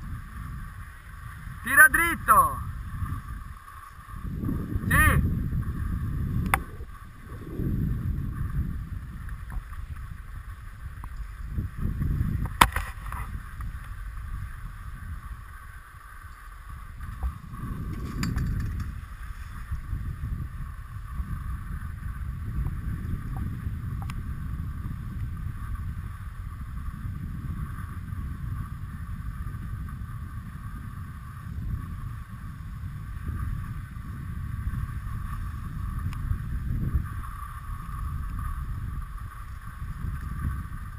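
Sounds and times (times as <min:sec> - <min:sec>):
skis sliding over snow: 0:00.0 - 0:40.9
wind rumbling on microphone: 0:00.0 - 0:40.9.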